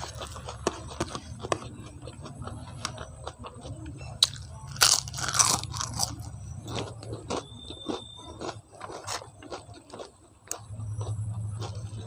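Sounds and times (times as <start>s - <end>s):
crisp bite crunch: 0.0s - 12.0s
wet chewing: 0.0s - 12.0s.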